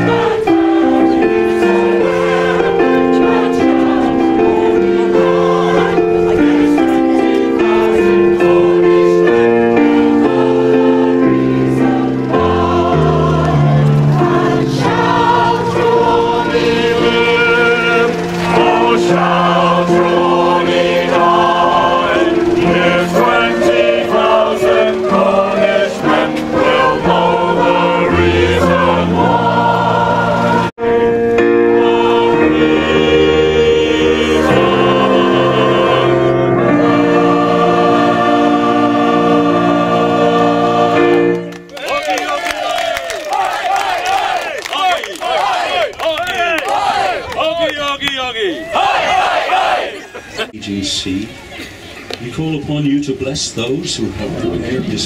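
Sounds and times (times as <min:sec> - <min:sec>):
choir singing: 0:00.0 - 0:45.9, 0:48.7 - 0:50.5
electric keyboard chords: 0:00.0 - 0:47.4.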